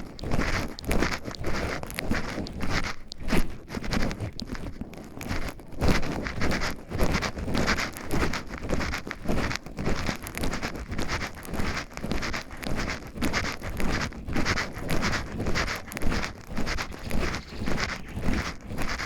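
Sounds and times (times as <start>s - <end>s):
footsteps on forest path: 0.0s - 19.0s.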